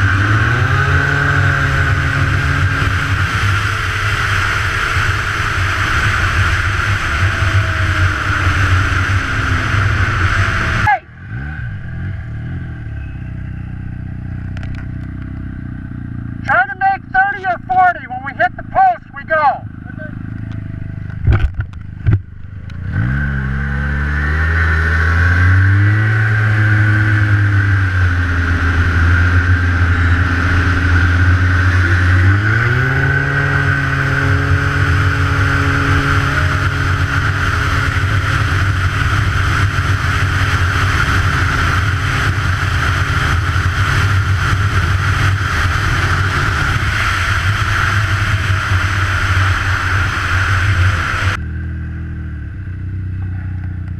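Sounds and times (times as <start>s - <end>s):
engine accelerating hard: 0.0s - 53.9s.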